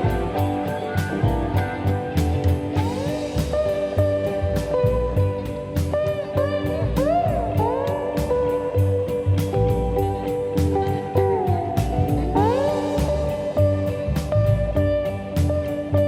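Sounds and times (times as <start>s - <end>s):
bass: 0.0s - 16.0s
guitar playing bending notes: 0.0s - 16.0s
steady drum beat: 0.0s - 16.0s.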